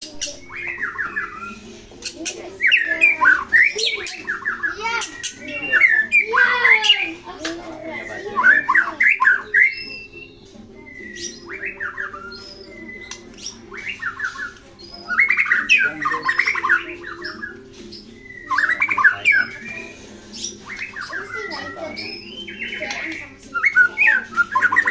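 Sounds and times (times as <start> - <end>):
bird singing harsh notes and whistles: 0.0 - 24.9.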